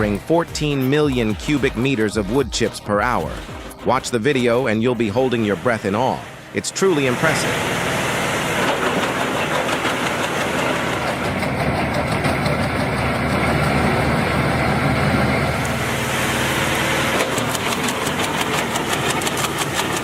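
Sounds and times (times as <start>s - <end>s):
wood chipper engine running: 3.0s - 20.0s.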